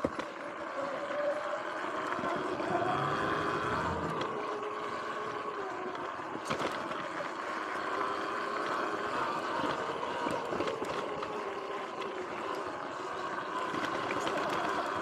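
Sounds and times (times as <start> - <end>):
electric motor whine: 0.1 - 15.0.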